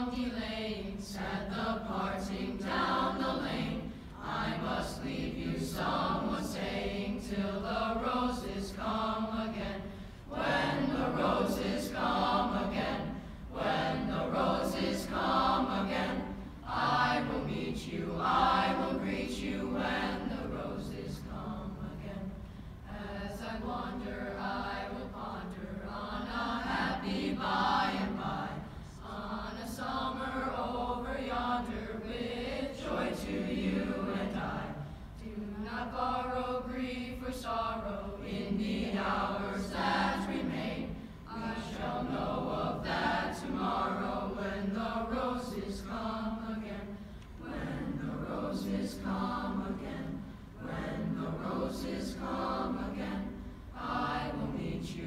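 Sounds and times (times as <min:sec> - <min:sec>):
boys' choir singing: 0:00.0 - 0:55.0.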